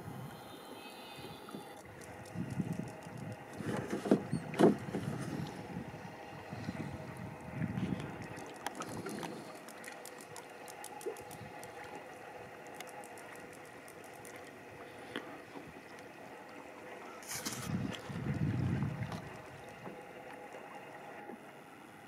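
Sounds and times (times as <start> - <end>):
water dripping and lapping: 1.4 - 21.6.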